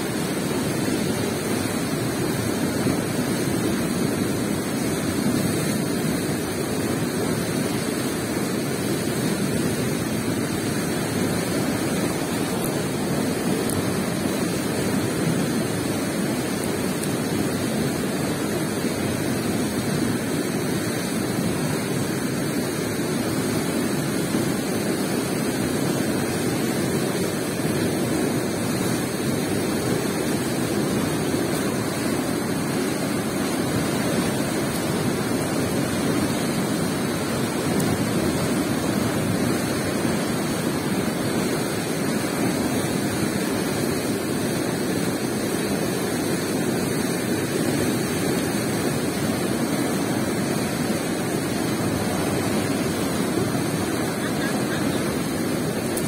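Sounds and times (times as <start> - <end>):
steady outdoor rushing noise: 0.0 - 56.0.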